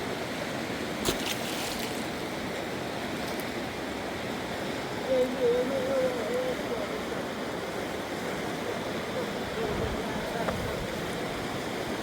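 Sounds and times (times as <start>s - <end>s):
fast river rushing: 0.0s - 12.0s.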